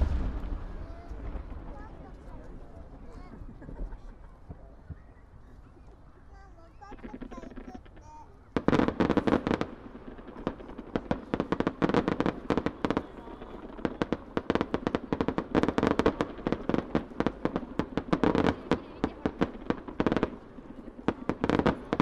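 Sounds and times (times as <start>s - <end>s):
fireworks launching and bursting: 0.0s - 3.6s, 6.8s - 22.0s.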